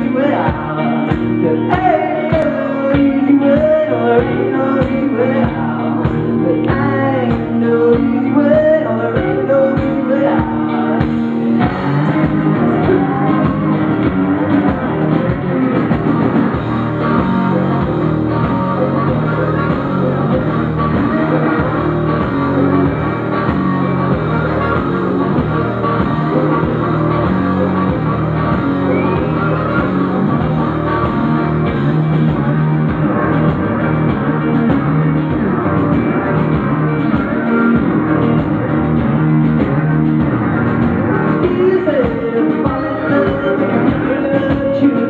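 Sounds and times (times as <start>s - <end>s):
live rock band: 0.0s - 45.0s
person singing: 0.0s - 45.0s.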